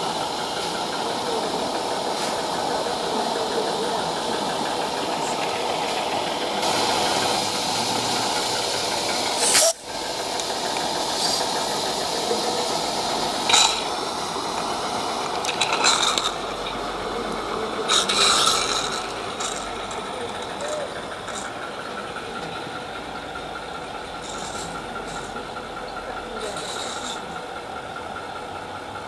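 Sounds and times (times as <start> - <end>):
steady steam hiss: 0.0 - 29.0
steam bursts: 0.0 - 29.0.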